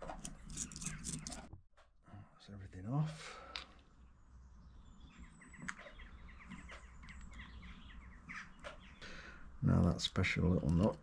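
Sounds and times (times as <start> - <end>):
faint bird chirping: 0.2 - 10.0.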